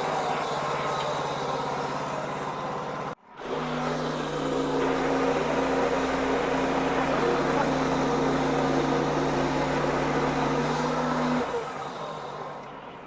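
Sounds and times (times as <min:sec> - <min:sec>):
band sawmill sawing log: 0:00.0 - 0:12.6.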